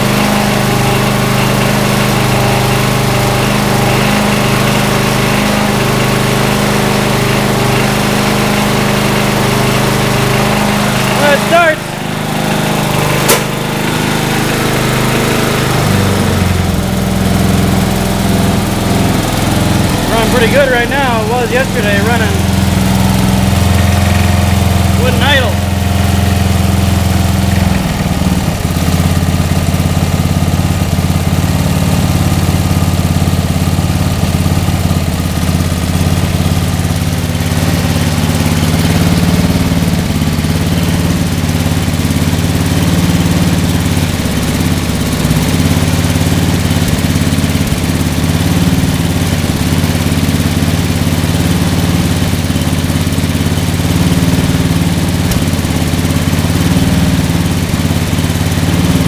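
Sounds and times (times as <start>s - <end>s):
lawn tractor engine running: 0.0s - 59.0s.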